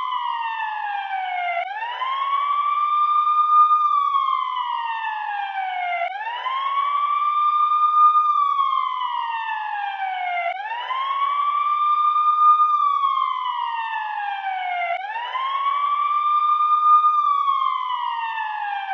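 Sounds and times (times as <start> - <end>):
emergency siren wailing: 0.0 - 18.9.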